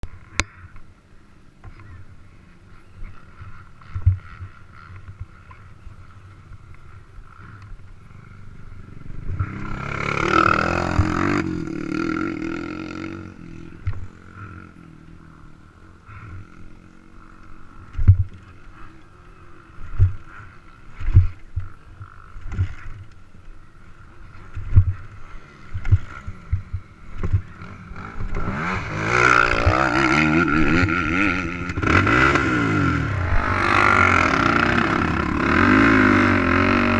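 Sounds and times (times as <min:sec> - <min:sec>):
atv engine running: 0:03.1 - 0:36.9.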